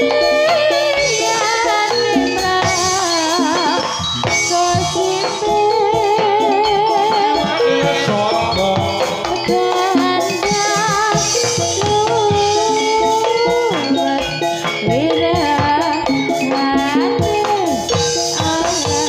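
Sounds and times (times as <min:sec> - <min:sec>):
drums keeping steady beat: 0:00.0 - 0:19.0
rattling percussion: 0:00.0 - 0:19.0
wavering melody line: 0:00.0 - 0:19.0.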